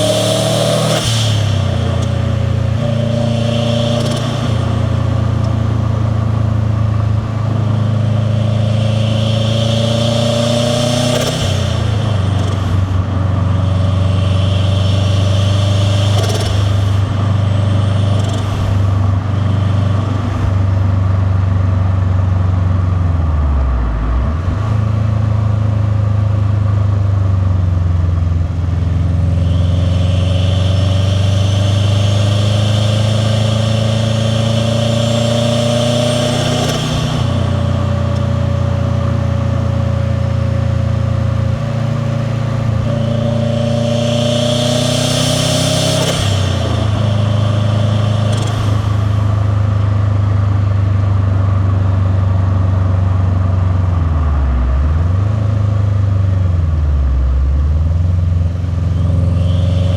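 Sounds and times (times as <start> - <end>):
car engine revving through gears: 0.0 - 22.4, 23.0 - 26.6, 27.5 - 51.7, 52.5 - 59.9.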